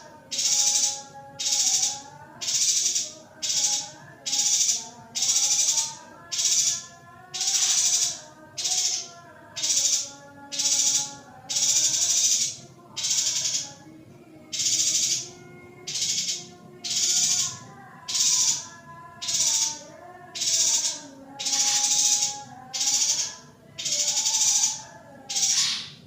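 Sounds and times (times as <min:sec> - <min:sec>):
bird harsh buzzy calls: 0:00.0 - 0:13.8, 0:14.5 - 0:26.0.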